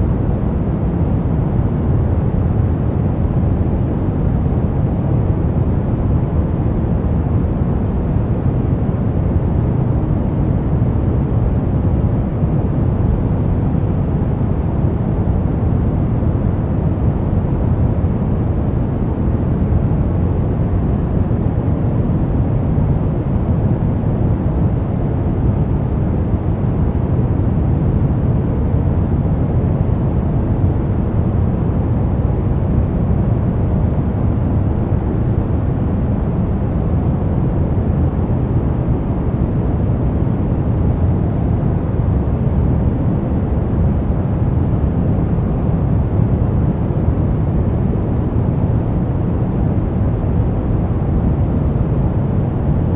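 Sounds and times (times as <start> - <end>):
brown noise: 0.0 - 52.9.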